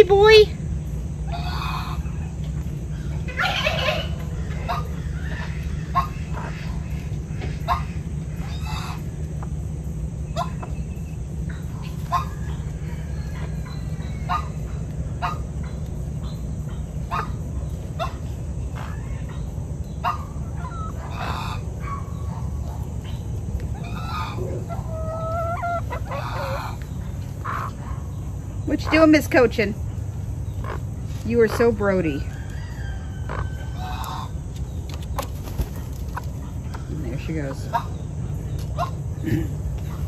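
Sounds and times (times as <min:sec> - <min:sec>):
chickens clucking: 0:00.0 - 0:40.0
steady low hum: 0:00.0 - 0:40.0.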